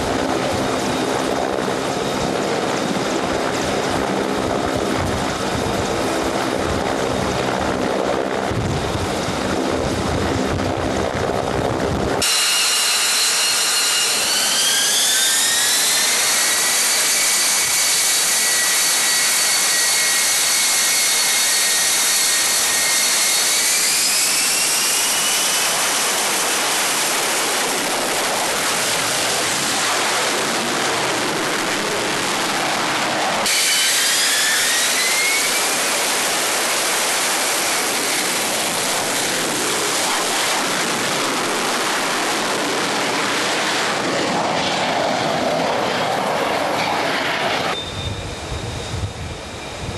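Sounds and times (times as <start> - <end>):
jet engine whine rising: 0.0 - 49.9.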